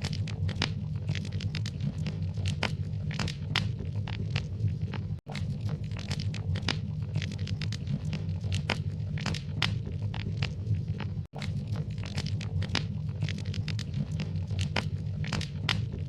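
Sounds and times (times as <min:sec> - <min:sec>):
low rumble of burning: 0:00.0 - 0:16.0
wood fire crackling and popping: 0:00.0 - 0:16.0.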